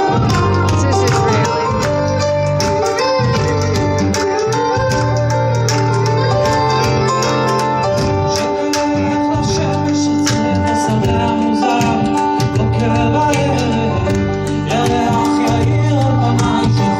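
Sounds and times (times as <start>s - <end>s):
piano and guitar chords: 0.0s - 16.9s.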